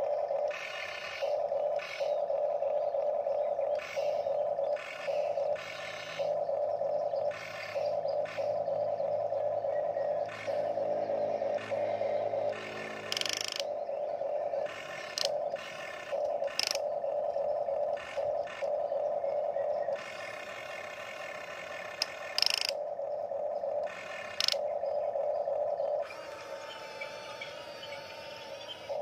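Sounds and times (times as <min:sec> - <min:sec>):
electric motors whining: 0:00.0 - 0:22.9, 0:23.6 - 0:24.7, 0:25.8 - 0:29.0.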